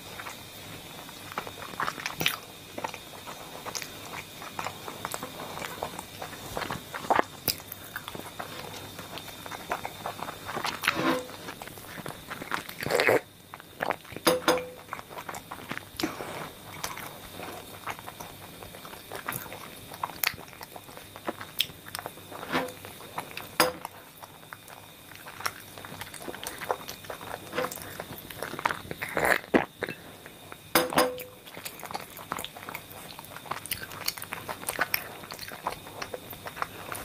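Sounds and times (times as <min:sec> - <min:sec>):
chewing with mouth full: 0:00.0 - 0:37.0.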